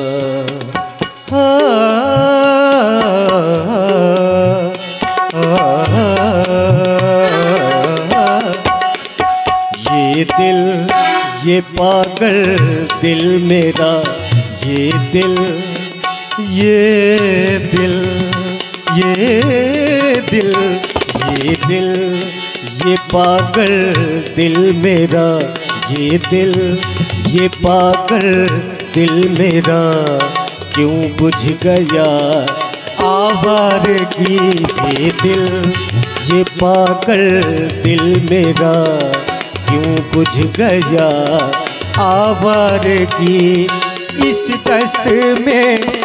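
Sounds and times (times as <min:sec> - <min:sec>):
harmonium melody: 0:00.0 - 0:46.0
tabla drumming: 0:00.0 - 0:46.0.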